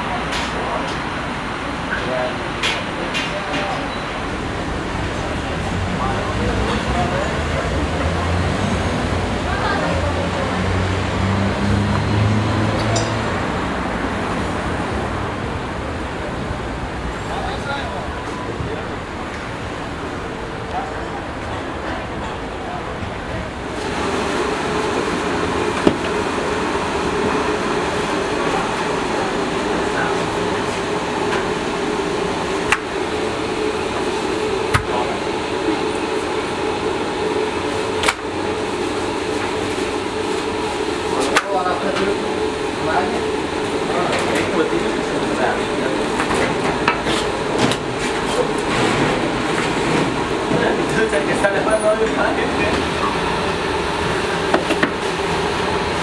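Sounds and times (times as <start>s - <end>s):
steady mechanical hum: 0.0s - 56.0s
cars passing: 4.2s - 56.0s.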